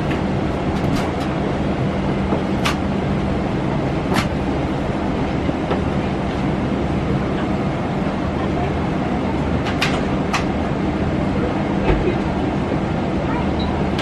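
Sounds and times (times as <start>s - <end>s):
airplane cabin air rushing: 0.0s - 14.0s.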